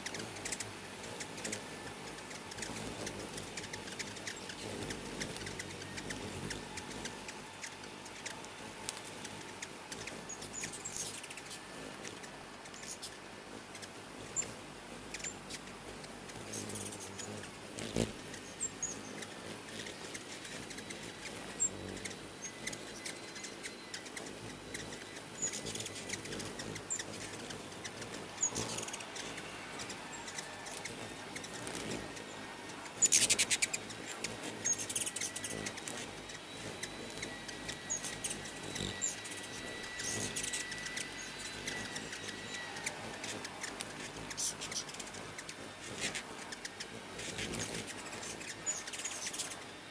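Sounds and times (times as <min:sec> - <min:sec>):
hummingbirds chipping and twittering: 0:00.0 - 0:49.9.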